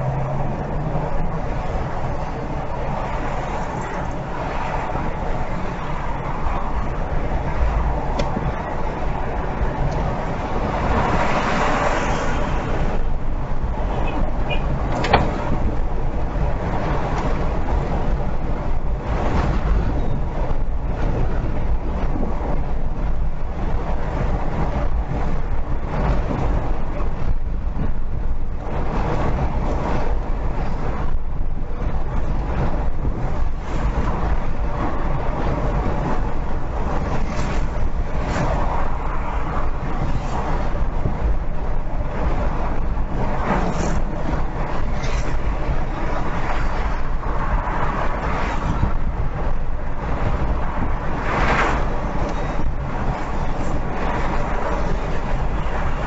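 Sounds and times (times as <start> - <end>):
car road and tyre noise: 0.0 - 56.0.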